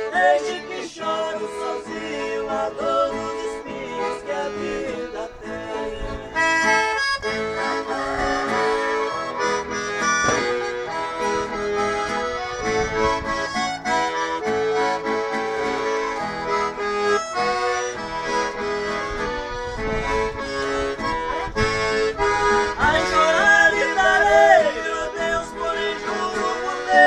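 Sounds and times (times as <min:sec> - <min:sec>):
accordion melody: 0:00.0 - 0:27.0
strummed guitar: 0:00.0 - 0:27.0.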